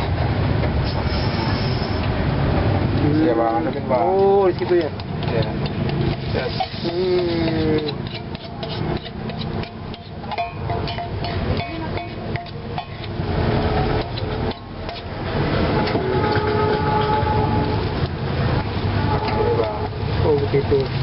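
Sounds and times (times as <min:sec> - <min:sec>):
metal spoon scraping frying pan: 0:03.7 - 0:21.0.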